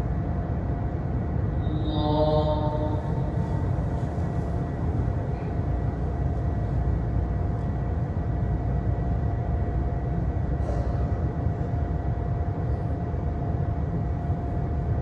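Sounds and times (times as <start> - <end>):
faint steady hum: 0.0 - 15.0
fan airflow buffeting microphone: 0.0 - 15.0.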